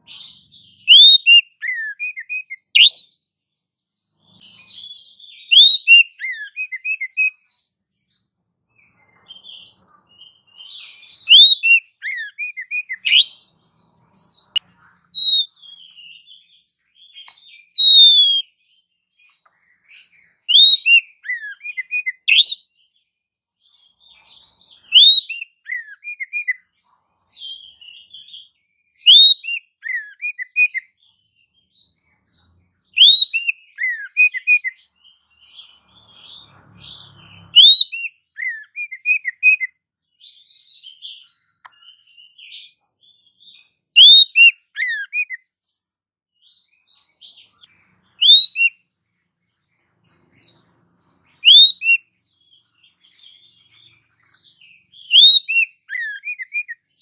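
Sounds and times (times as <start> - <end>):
sharp upswept bird chirp: 0.0 - 57.0.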